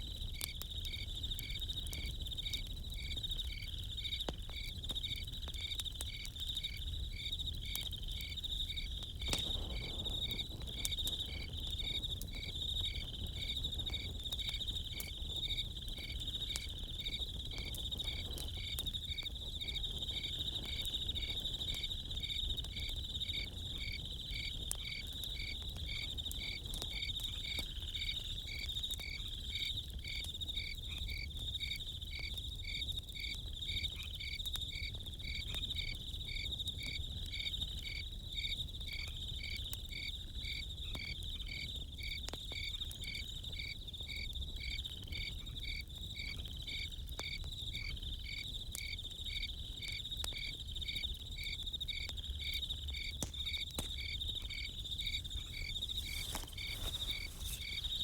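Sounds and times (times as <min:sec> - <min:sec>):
campfire crackles: 0:00.0 - 0:58.0
crickets chirping: 0:00.0 - 0:58.0.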